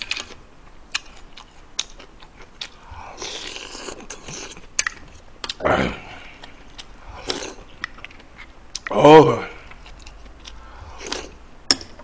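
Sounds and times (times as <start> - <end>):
person chewing: 0.0 - 9.0, 9.6 - 11.4.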